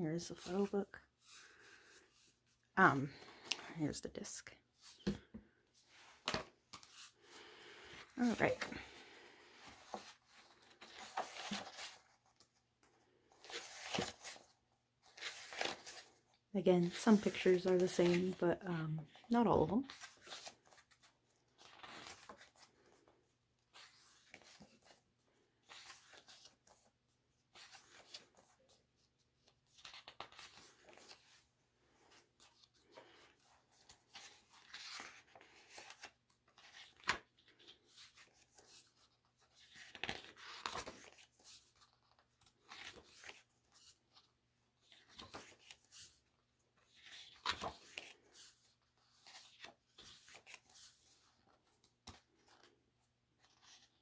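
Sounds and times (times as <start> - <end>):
paper pages rustling: 4.8 - 18.4, 19.0 - 54.0.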